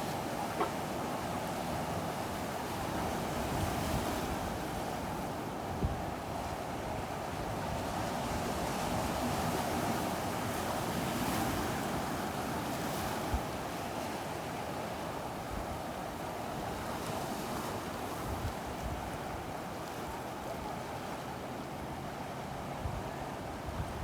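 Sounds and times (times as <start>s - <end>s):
ocean surf on beach: 0.0s - 24.0s.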